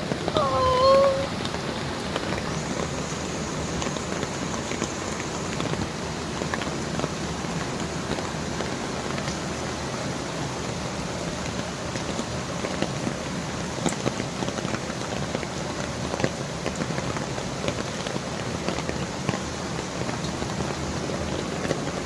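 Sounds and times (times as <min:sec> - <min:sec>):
heavy rain: 0:00.0 - 0:22.0
raindrops ticking on hard surfaces: 0:00.0 - 0:22.0.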